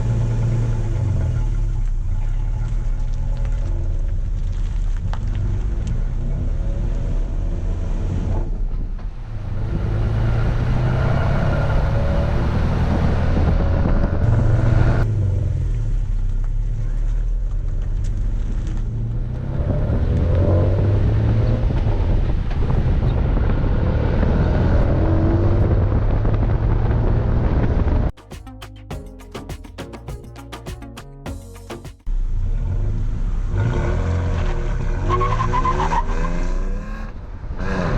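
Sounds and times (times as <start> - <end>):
deep throaty truck exhaust: 0.0 - 28.1, 32.1 - 37.9.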